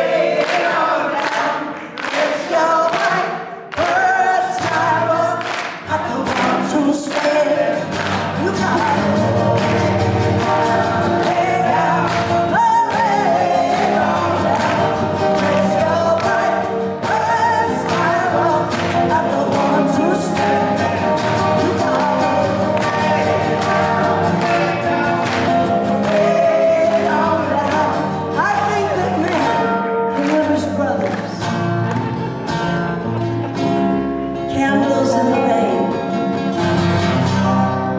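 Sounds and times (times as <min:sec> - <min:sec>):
several voices singing: 0:00.0 - 0:31.5, 0:34.4 - 0:36.2
guitar accompaniment with steady beat: 0:03.9 - 0:37.9.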